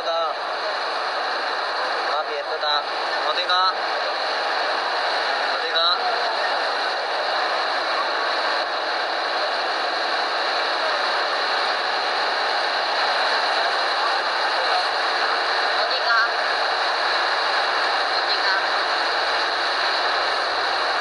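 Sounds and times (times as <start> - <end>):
steady rushing noise aboard boat: 0.0 - 21.0.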